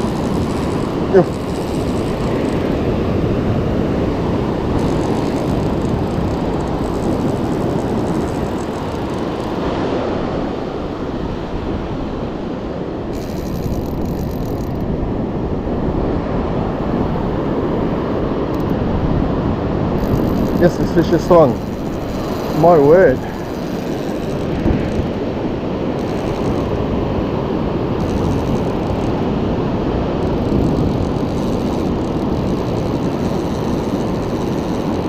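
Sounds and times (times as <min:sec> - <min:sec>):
surf rushing on beach: 0:00.0 - 0:13.2, 0:14.7 - 0:35.0
steady wind: 0:00.0 - 0:35.0.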